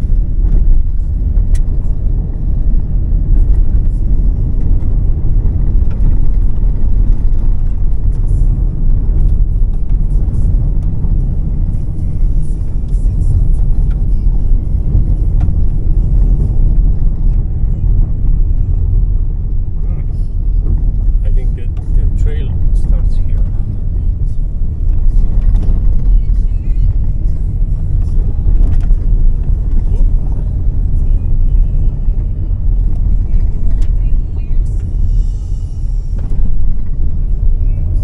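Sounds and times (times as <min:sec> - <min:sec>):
car driving on gravel road: 0:00.0 - 0:38.0.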